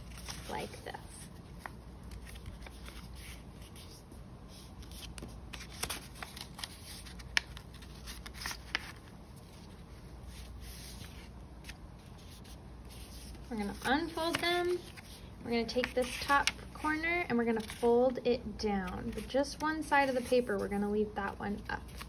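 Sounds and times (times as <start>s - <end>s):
paper crackles: 0.0s - 18.1s, 21.6s - 22.0s
paper folding and rustling: 0.0s - 18.1s, 18.8s - 20.9s, 21.5s - 22.0s.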